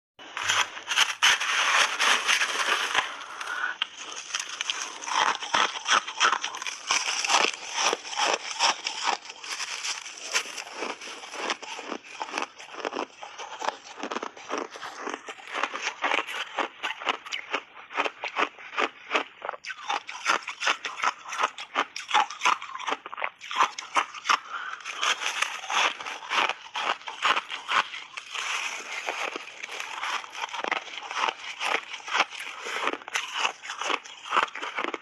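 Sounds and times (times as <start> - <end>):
ice being chewed: 0.2 - 35.0.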